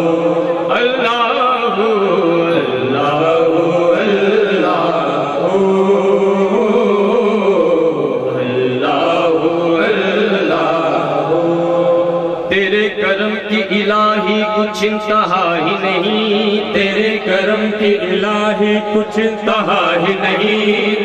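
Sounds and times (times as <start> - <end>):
men chanting in unison: 0.0 - 21.0.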